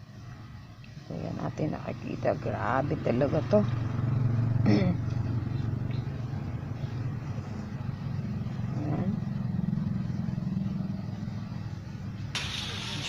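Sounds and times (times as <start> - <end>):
vehicle engine running: 2.0 - 13.0.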